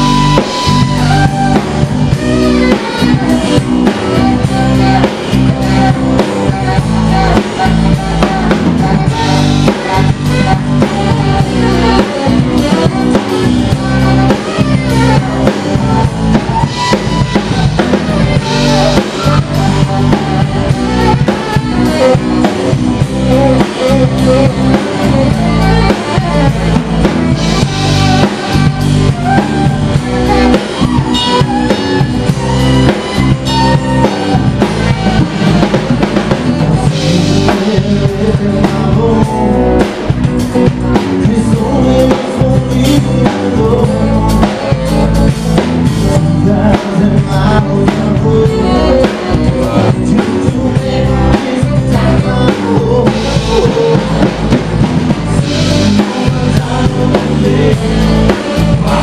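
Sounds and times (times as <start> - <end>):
drum kit beat: 0.0 - 59.0
live band music: 0.0 - 59.0.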